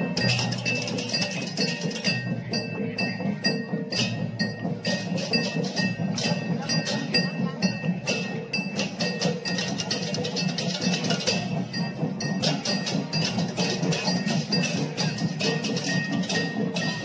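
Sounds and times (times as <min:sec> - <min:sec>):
metal percussion ringing: 0:00.0 - 0:17.0
wooden cattle bells clattering: 0:00.0 - 0:17.0.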